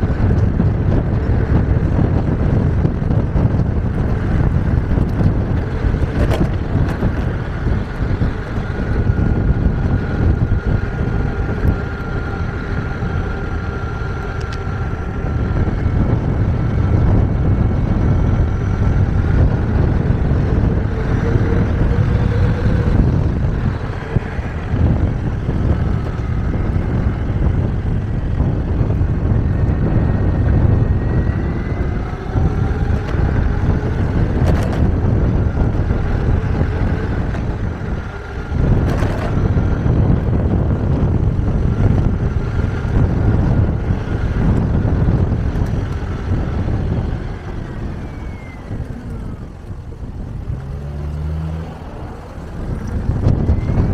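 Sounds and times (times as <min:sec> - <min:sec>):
electric motor whine: 0:00.0 - 0:53.9
tyres rumbling on asphalt: 0:00.0 - 0:53.9.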